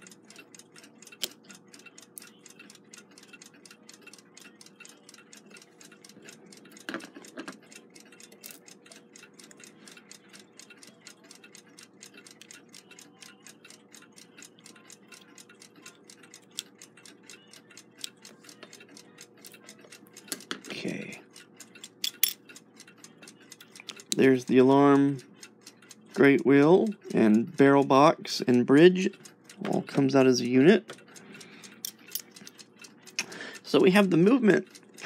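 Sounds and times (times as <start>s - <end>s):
mechanical clock ticking: 0.0s - 35.0s.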